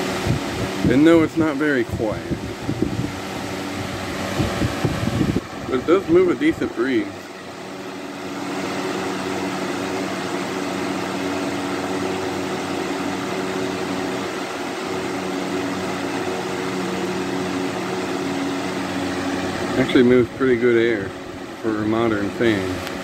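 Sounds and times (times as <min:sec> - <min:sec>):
fan air rushing: 0:00.0 - 0:23.0
fan motor hum: 0:00.0 - 0:23.0.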